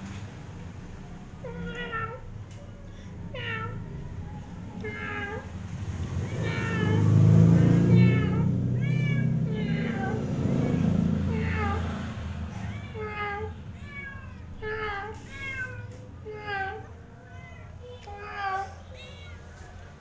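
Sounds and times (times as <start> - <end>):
cat meowing: 1.4 - 2.3, 3.2 - 5.5, 6.2 - 11.9, 12.5 - 19.8.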